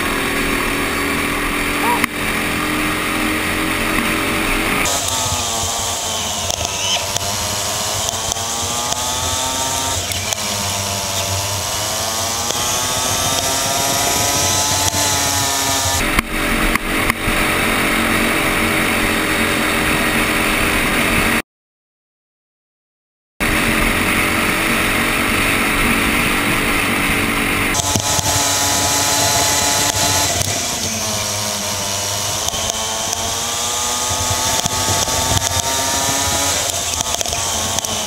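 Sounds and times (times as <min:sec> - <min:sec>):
kart engine revving: 0:00.0 - 0:21.4, 0:23.4 - 0:38.0.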